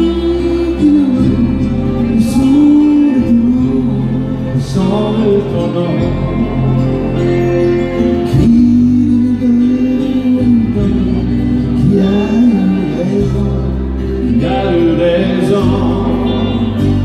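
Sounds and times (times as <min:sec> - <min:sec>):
amplified country backing band: 0:00.0 - 0:17.0
man singing into a microphone: 0:00.0 - 0:17.0.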